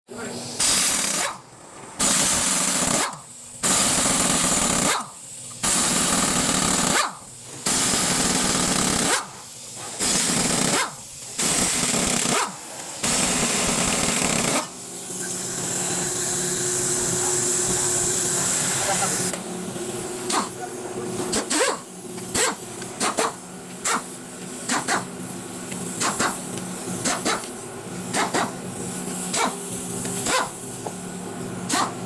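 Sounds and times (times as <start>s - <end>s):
loud hissing machine bursts: 0.3s - 32.0s.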